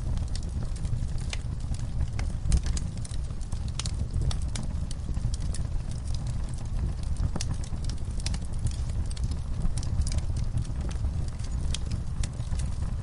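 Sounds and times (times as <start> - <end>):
low steady rumble: 0.0 - 13.0
wood fire crackling and popping: 0.0 - 13.0.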